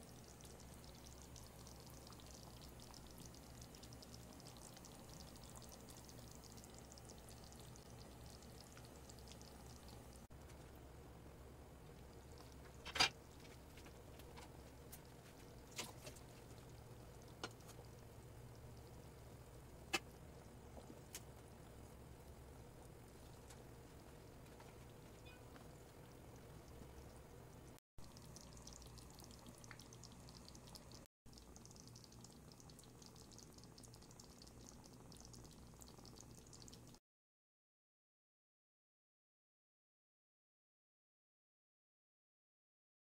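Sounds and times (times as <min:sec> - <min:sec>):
curry simmering with pops: 0:00.0 - 0:10.8, 0:11.8 - 0:37.0.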